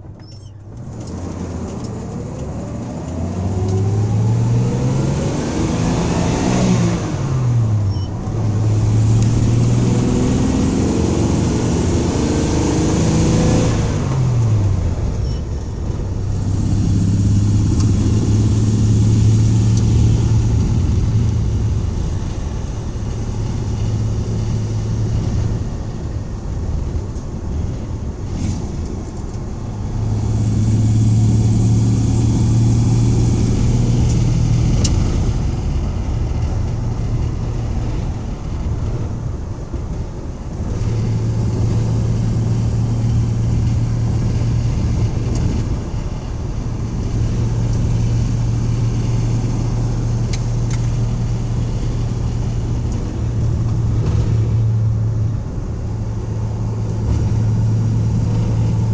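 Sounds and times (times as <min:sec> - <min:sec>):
van engine at full throttle: 0:00.0 - 0:58.9.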